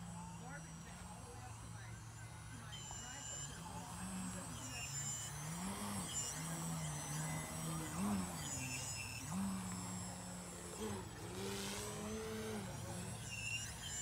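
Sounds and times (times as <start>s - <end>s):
model plane motor and propeller: 0.0s - 14.0s.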